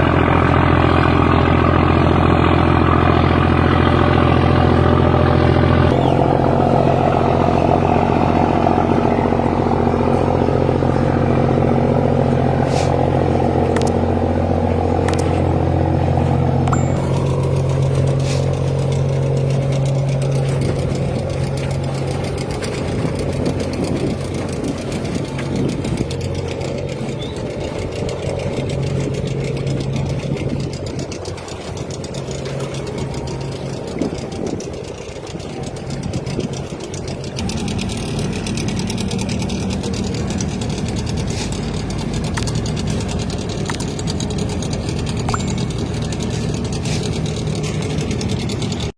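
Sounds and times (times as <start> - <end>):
ferry engines droning: 0.0 - 48.9.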